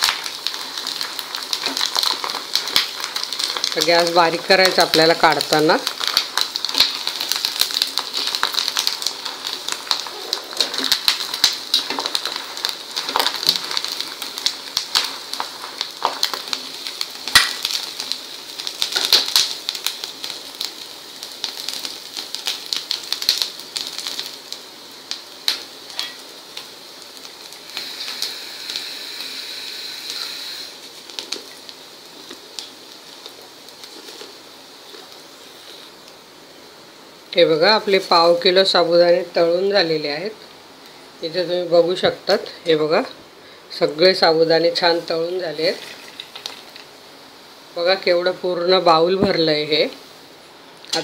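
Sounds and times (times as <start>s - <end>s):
hot oil crackling and sizzling: 0.0s - 51.0s.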